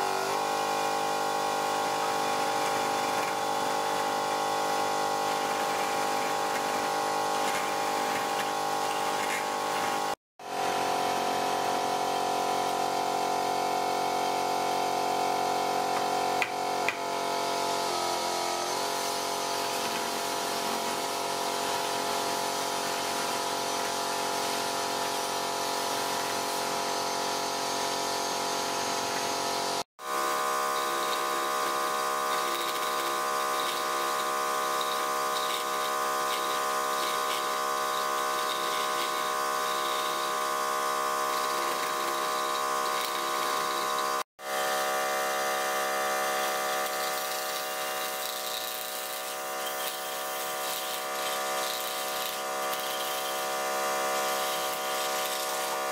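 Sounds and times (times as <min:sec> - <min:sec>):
chisel cutting spinning wood: 0:00.0 - 0:10.2, 0:16.4 - 0:55.9
wood lathe motor hum: 0:00.0 - 0:10.8, 0:17.0 - 0:55.9.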